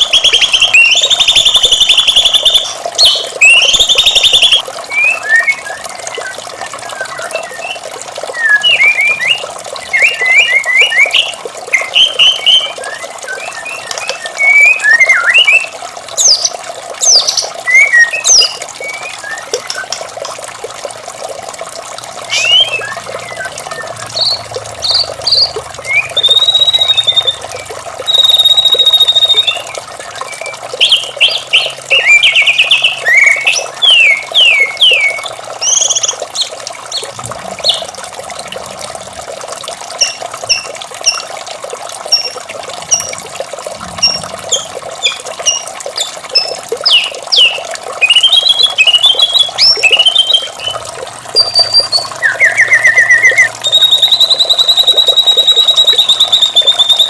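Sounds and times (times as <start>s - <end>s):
bird singing whistles and trills: 0.0s - 20.0s, 22.2s - 37.9s, 44.0s - 50.8s, 51.4s - 57.0s
running water: 0.0s - 57.0s.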